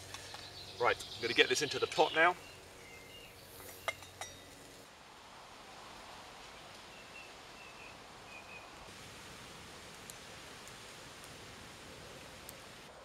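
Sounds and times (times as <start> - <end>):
soft steady hiss: 0.0 - 13.0.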